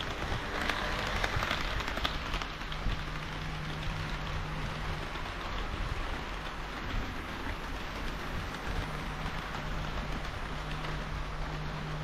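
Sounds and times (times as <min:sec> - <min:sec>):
model train wheels rolling: 0:00.0 - 0:12.0.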